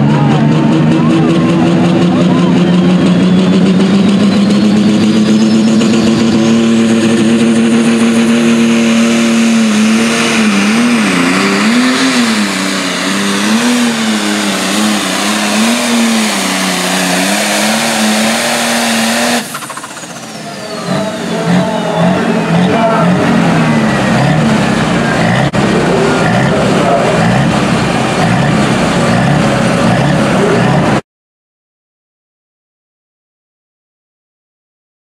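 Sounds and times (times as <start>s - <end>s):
high whine: 0.0s - 31.0s
tractor diesel engine at full throttle: 0.0s - 31.0s.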